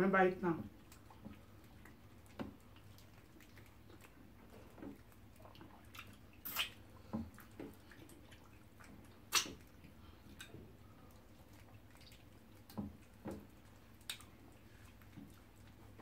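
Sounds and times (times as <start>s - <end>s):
wet eating sounds: 0.7s - 16.0s
lip smacks: 0.8s - 16.0s.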